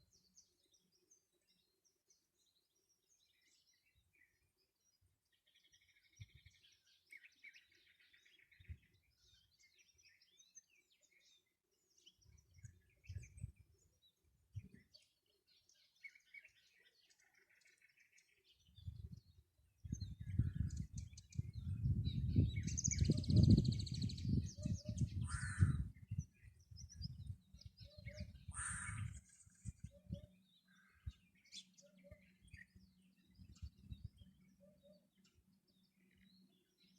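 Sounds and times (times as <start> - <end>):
birds chirping and singing: 0.0 - 36.9.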